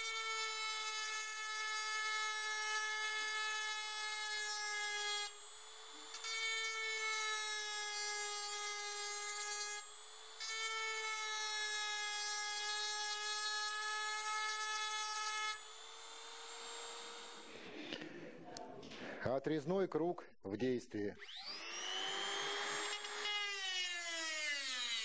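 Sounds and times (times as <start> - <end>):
rotary tool whining: 0.0 - 18.0, 21.2 - 25.0.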